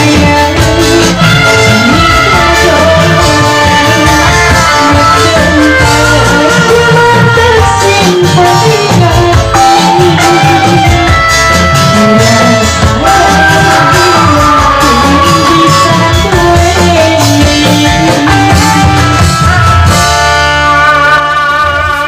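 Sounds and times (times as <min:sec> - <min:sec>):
loud amplified performance music: 0:00.0 - 0:22.0
woman singing through microphone: 0:00.0 - 0:22.0.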